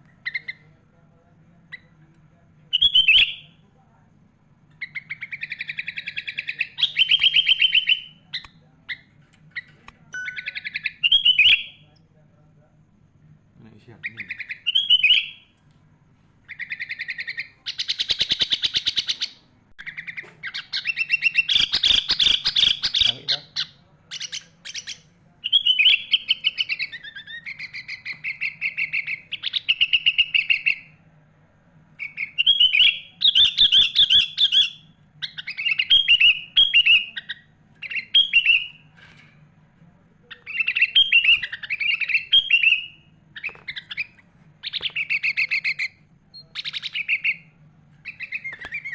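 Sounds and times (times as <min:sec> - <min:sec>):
bird singing chattering phrases: 0:00.0 - 0:01.0, 0:01.6 - 0:03.7, 0:04.6 - 0:12.1, 0:13.5 - 0:15.6, 0:16.4 - 0:31.1, 0:31.9 - 0:39.5, 0:40.2 - 0:48.9.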